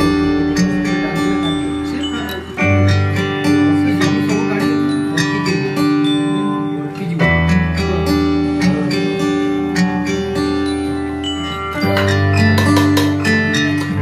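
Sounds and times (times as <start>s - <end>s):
plucked guitar: 0.0s - 14.0s
sustained bass: 0.0s - 14.0s.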